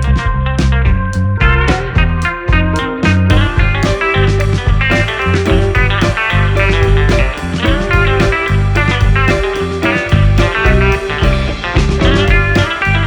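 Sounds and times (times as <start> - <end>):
guitar music with steady beat: 0.0 - 13.0.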